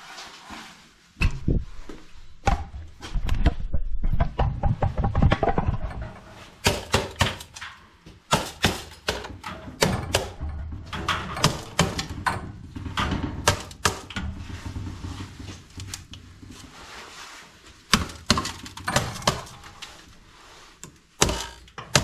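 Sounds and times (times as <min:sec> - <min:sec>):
knocks and thumps of hand work: 0:01.2 - 0:22.0.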